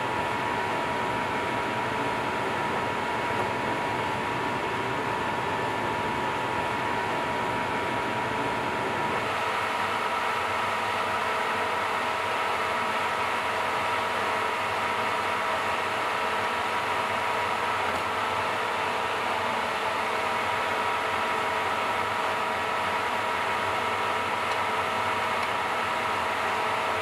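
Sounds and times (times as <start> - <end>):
machine hum and hiss: 0.0 - 27.0.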